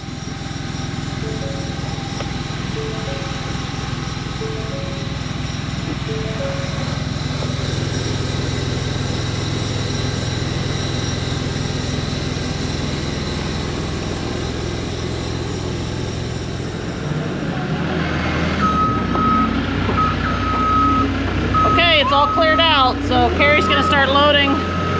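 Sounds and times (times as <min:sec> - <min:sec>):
reversing alarm beeping: 0:00.0 - 0:17.4, 0:18.3 - 0:24.9
skid steer engine running: 0:00.0 - 0:24.9.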